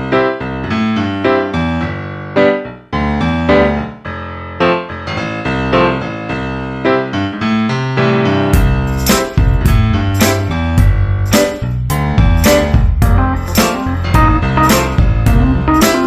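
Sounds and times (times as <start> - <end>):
piano-like keyboard melody: 0.0 - 16.0.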